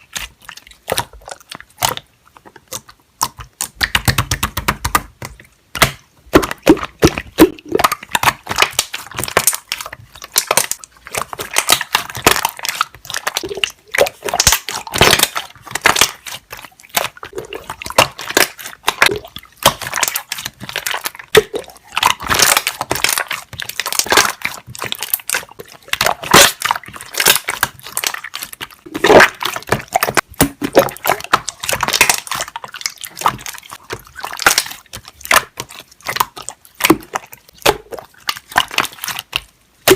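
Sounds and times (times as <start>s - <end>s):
slime bubbles popping: 0.0s - 39.9s.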